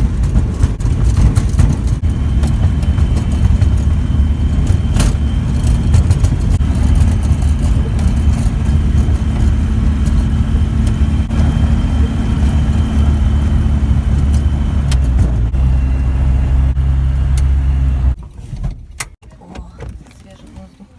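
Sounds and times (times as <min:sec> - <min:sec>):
light aircraft engine and propeller: 0:00.0 - 0:18.2.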